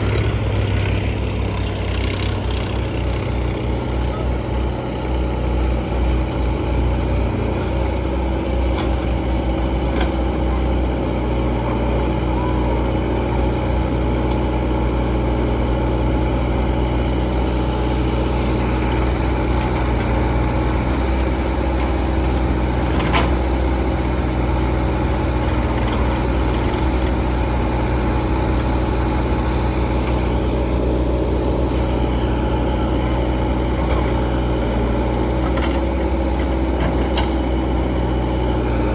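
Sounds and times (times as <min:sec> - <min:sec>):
diesel engine running steadily: 0:00.0 - 0:38.9.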